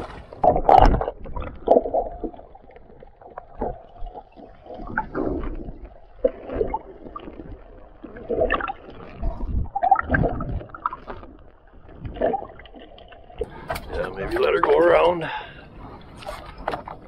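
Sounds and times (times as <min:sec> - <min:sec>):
low underwater rumble: 0:00.0 - 0:17.0
muffled underwater gurgling: 0:00.0 - 0:17.0.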